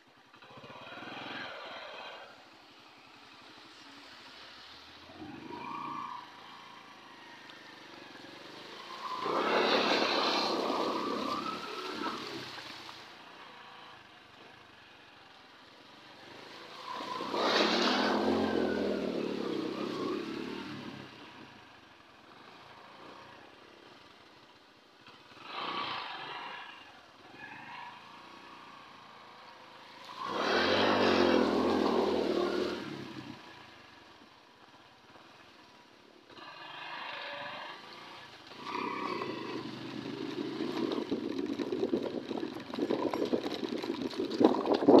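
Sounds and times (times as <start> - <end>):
motorcycle engine: 0.0 - 45.0
rough engine sound: 0.0 - 45.0.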